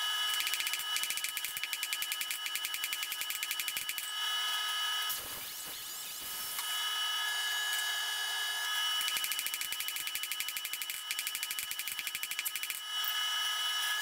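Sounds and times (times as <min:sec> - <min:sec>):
forge hissing and humming: 0:00.0 - 0:14.0.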